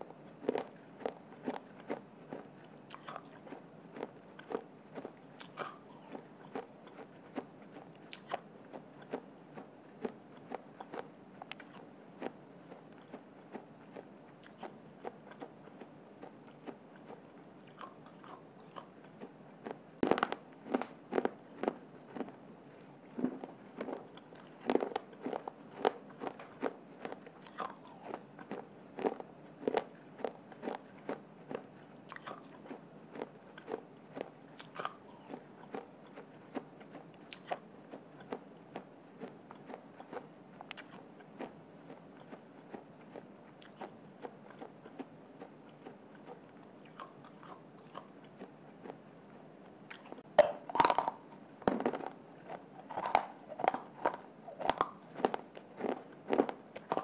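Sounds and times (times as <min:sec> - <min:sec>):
crunching and chewing clay: 0:00.0 - 0:57.0.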